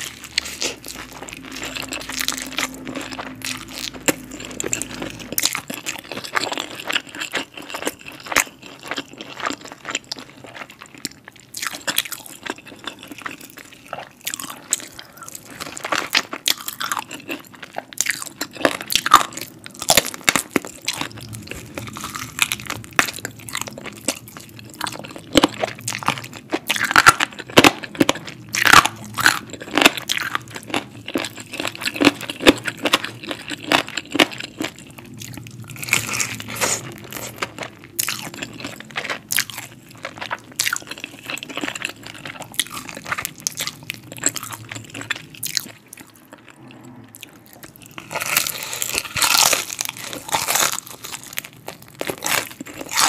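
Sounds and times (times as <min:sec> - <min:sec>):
crunching fried chicken: 0:00.0 - 0:53.0
quiet chewing: 0:00.0 - 0:53.0.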